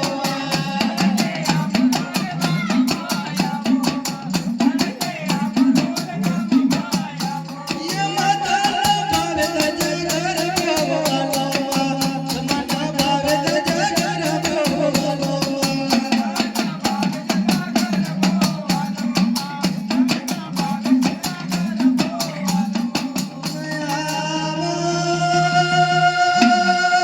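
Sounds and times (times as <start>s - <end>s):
fast drum beat: 0.0s - 24.2s
person singing: 0.0s - 27.0s.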